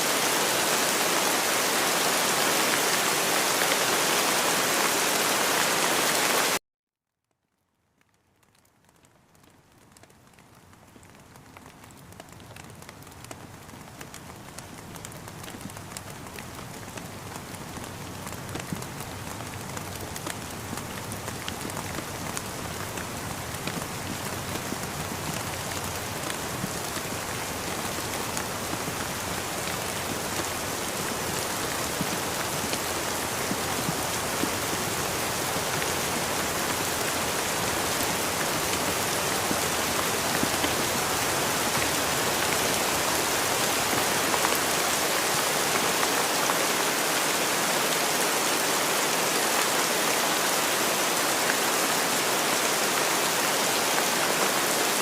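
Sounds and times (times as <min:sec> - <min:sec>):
rain pattering: 0:00.0 - 0:06.6, 0:07.2 - 0:55.0.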